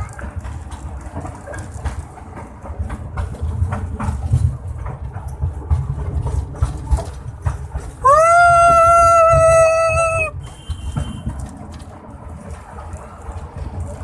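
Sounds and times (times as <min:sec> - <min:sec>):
train rumbling on rails: 0:00.0 - 0:14.0
wheels clicking and clacking: 0:00.0 - 0:14.0.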